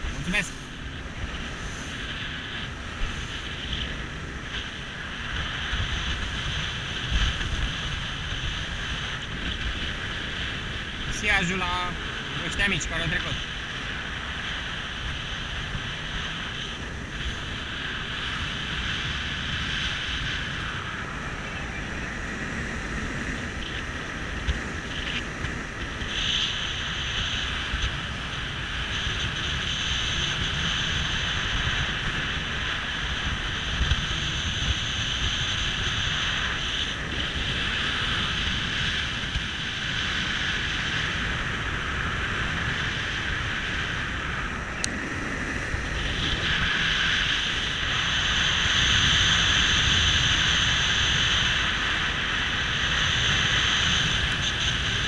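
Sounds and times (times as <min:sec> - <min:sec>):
motorboat engine running: 0:00.0 - 0:55.0
wind buffeting microphone: 0:00.0 - 0:55.0.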